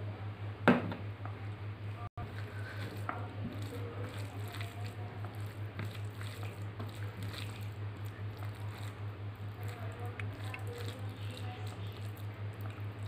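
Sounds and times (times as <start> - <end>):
steady low hum: 0.0 - 13.0
fingers squishing wet food: 2.4 - 13.0.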